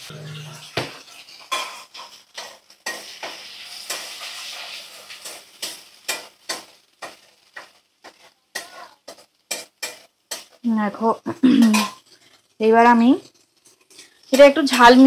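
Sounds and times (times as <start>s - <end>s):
oil sizzling: 0.0s - 15.0s
steel spatula scraping and knocking pan: 0.1s - 10.6s, 11.6s - 15.0s.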